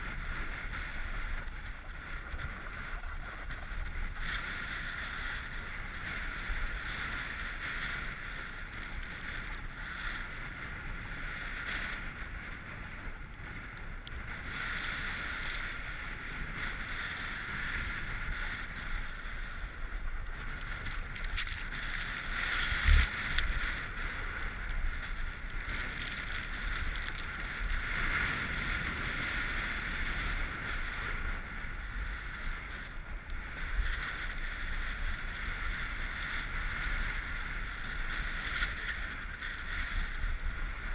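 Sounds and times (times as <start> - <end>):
skis sliding over snow: 0.0 - 40.9
wind on microphone: 0.0 - 40.9.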